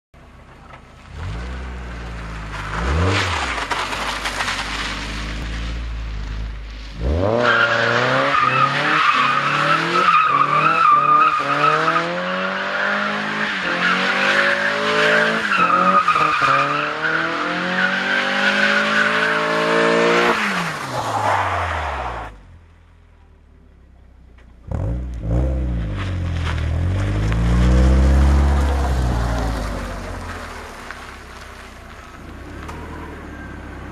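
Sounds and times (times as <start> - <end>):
car engine revving: 1.0 - 20.8, 24.6 - 33.9.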